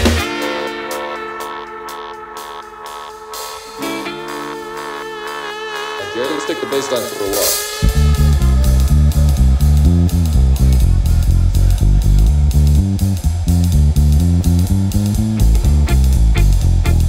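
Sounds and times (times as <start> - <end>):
drum kit cymbal beat: 0.0 - 17.0
electric bass line: 0.0 - 17.0
electric guitar strumming: 0.0 - 17.0.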